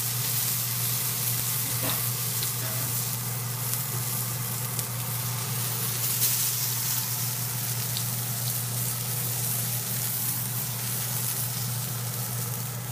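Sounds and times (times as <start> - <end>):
food sizzling in oil: 0.0 - 12.9
steady low hum: 0.0 - 12.9
oil spitting crackles: 0.1 - 12.9.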